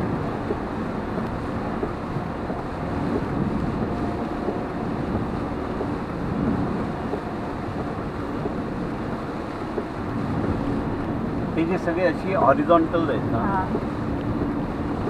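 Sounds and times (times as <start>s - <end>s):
rain on car: 0.0s - 15.0s
tyres on wet road: 0.0s - 15.0s.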